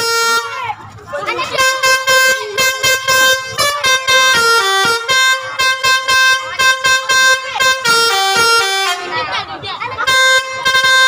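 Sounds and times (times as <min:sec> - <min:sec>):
musical air horn playing tune: 0:00.0 - 0:11.0.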